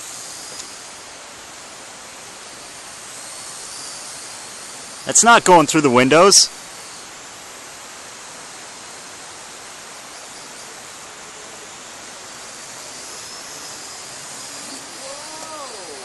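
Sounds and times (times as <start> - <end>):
drone propellers hissing: 0.0 - 16.0
faint thin whine: 0.0 - 16.0.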